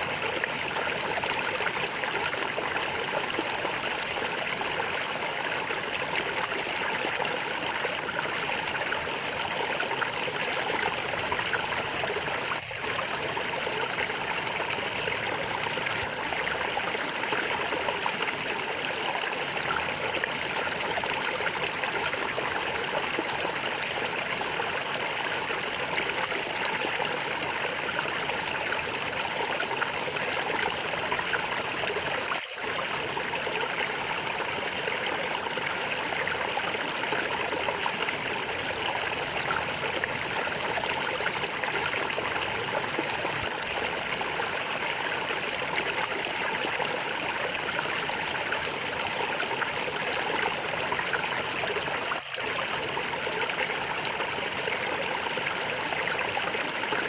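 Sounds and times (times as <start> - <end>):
flowing water gurgling: 0.0 - 57.0.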